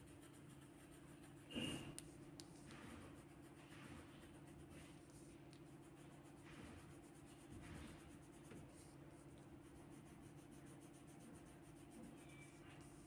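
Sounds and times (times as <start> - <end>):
pencil scratching on paper: 0.0 - 13.0.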